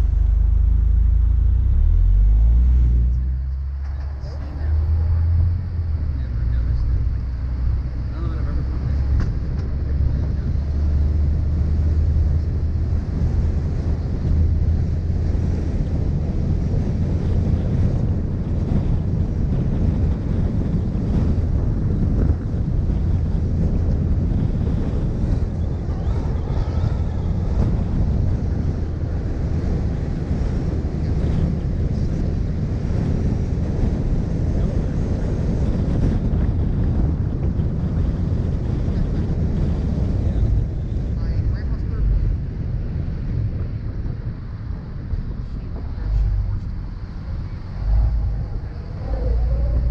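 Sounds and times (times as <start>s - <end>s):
car engine and tyres rumbling: 0.0s - 49.9s
wind buffeting microphone: 0.0s - 49.9s.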